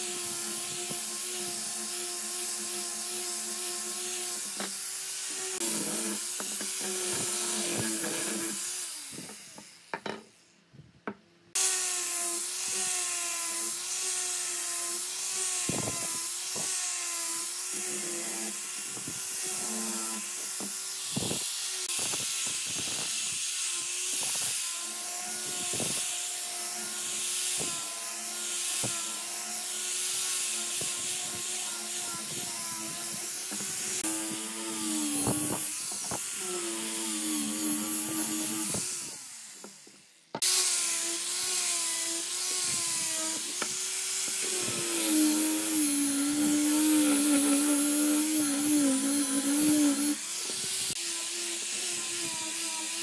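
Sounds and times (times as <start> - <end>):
angle grinder sanding wood: 0.0 - 10.0, 11.6 - 53.0.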